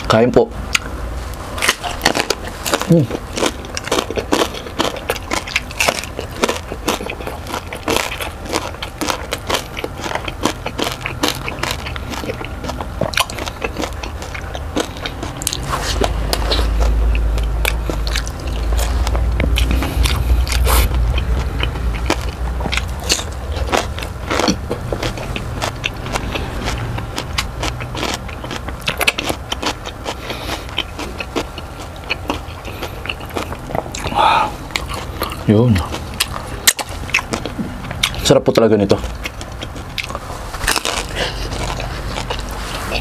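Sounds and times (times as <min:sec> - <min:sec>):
crunching and chewing: 0:00.0 - 0:43.0
low steady rumble: 0:00.0 - 0:43.0.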